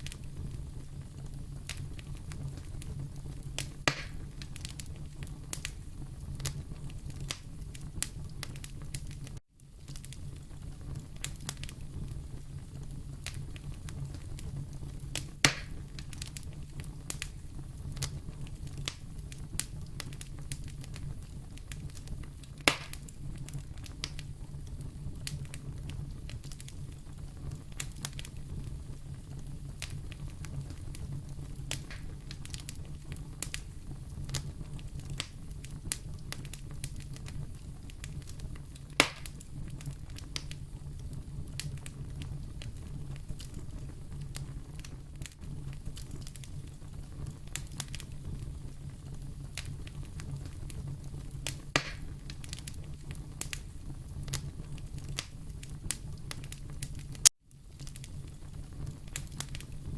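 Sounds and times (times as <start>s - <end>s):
sharp fire pops: 0.0s - 59.9s
wood fire crackling: 0.0s - 59.9s.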